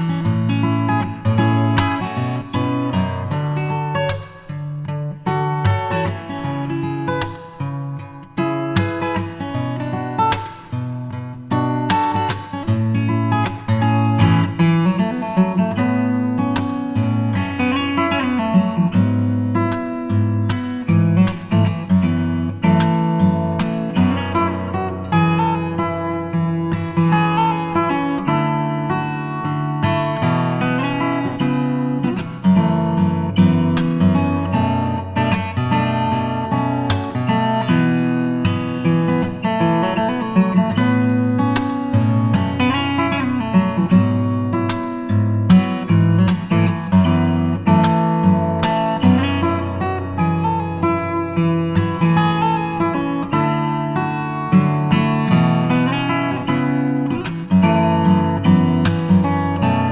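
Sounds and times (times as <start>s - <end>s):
acoustic guitar picked and strummed: 0.0s - 59.9s.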